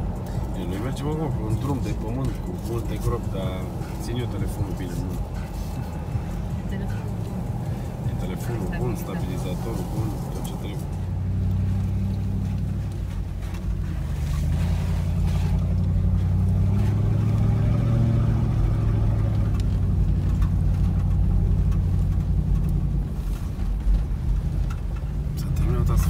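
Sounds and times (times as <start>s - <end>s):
car engine droning: 0.0s - 26.0s
tyres on gravel road: 0.0s - 26.0s.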